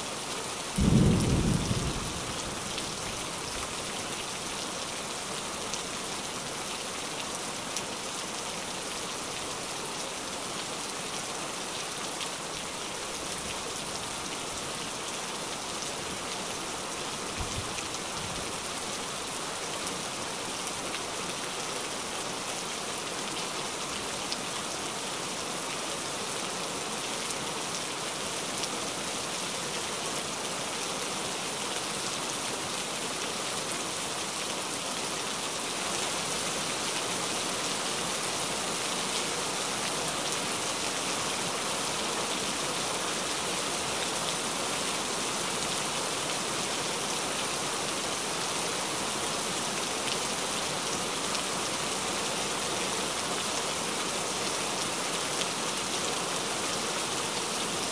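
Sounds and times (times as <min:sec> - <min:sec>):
heavy rain falling: 0:00.1 - 0:57.9.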